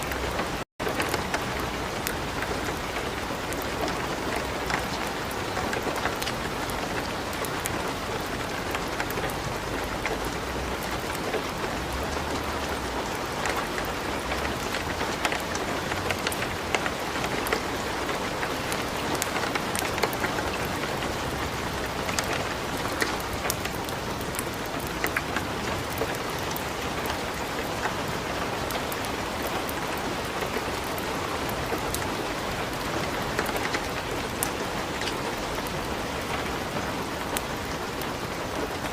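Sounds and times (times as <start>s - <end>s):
light rain hissing: 0.0s - 38.9s
wood fire crackling: 0.0s - 38.9s.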